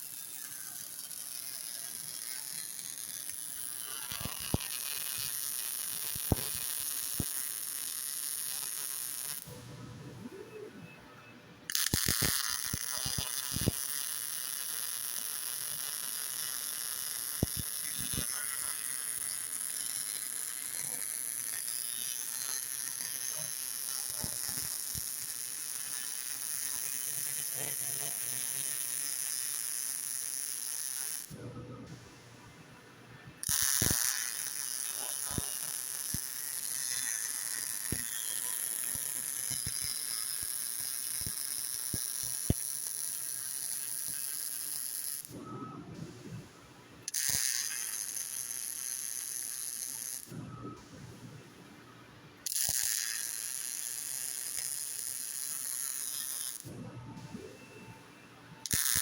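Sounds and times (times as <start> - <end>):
welding machine hiss: 0.0 - 9.6, 11.7 - 32.0, 33.4 - 45.4, 47.1 - 51.0, 52.5 - 56.7, 58.7 - 59.0.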